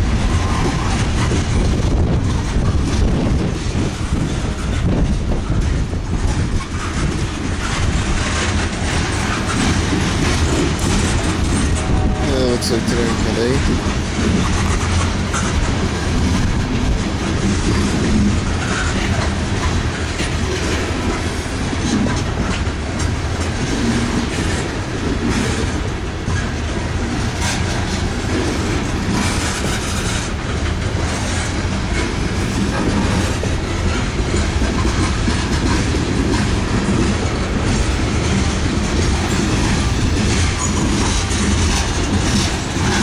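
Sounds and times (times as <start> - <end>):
freight train rumbling past: 0.0 - 43.0
wheels clacking over rail joints: 0.0 - 43.0.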